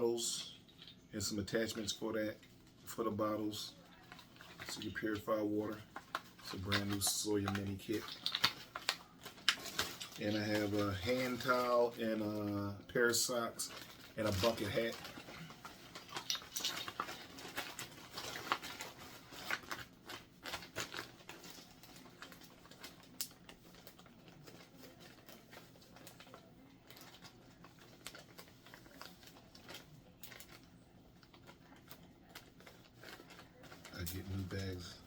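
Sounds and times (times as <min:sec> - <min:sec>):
fabric and packaging rustling: 0:00.0 - 0:35.0.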